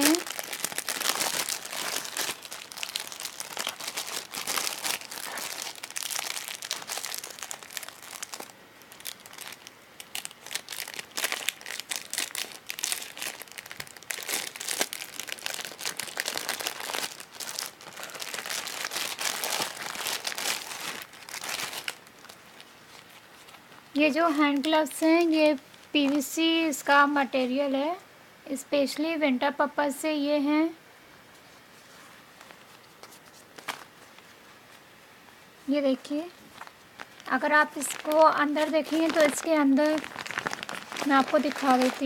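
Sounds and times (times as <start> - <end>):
plastic packaging crinkling: 0.0 - 26.4, 32.4 - 34.4, 36.4 - 42.0.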